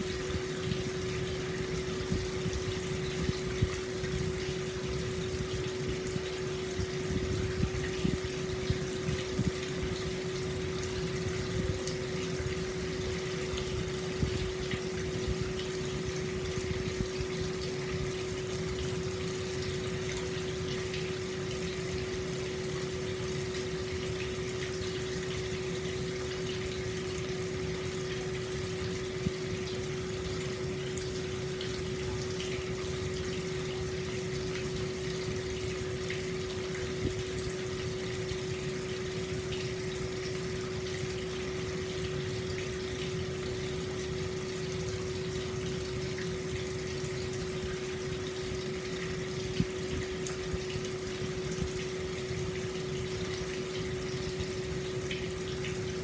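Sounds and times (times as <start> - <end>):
water flowing into bath: 0.0 - 56.0.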